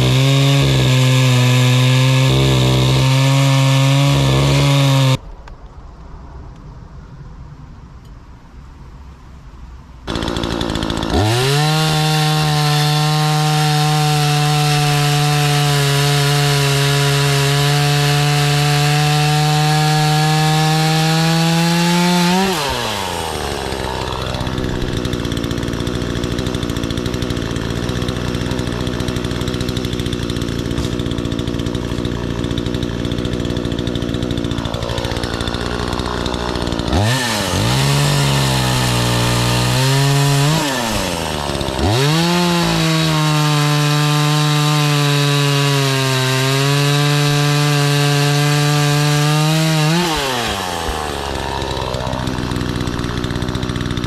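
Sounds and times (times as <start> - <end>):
chainsaw cutting log: 0.0 - 5.2, 10.1 - 54.0
chainsaw revving and idling: 0.0 - 5.2, 10.1 - 54.0.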